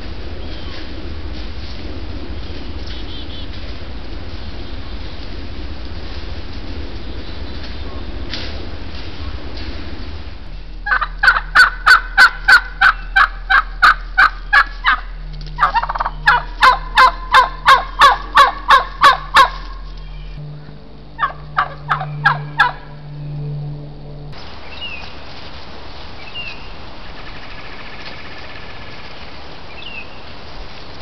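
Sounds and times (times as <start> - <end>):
wild turkey calling: 2.1 - 23.6, 26.2 - 30.3.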